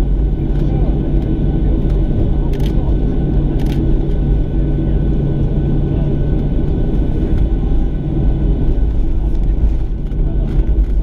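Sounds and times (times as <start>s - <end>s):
airplane cabin rumble: 0.0s - 11.0s
low hum: 0.0s - 11.0s.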